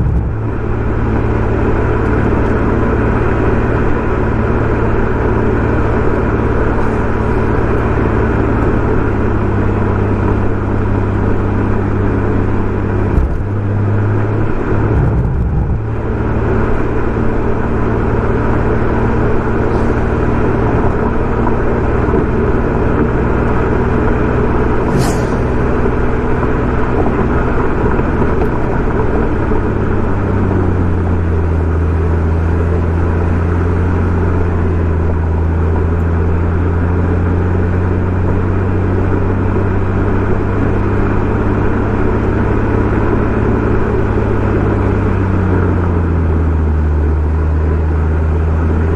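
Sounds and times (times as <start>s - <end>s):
car engine droning: 0.0s - 48.9s
road and wind noise: 0.0s - 48.9s.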